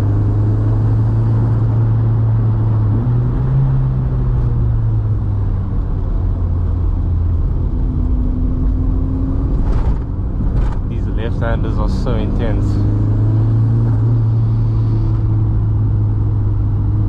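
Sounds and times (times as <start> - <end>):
car engine pulling at steady revs: 0.0 - 17.0
road rumble: 0.0 - 17.0.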